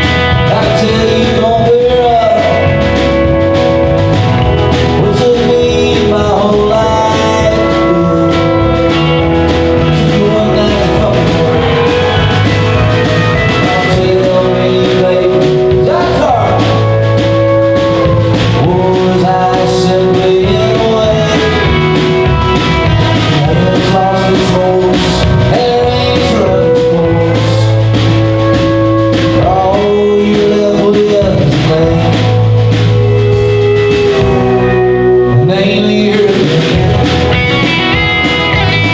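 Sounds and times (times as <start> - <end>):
country rock band playing: 0.0 - 38.9
drums beating: 0.0 - 38.9.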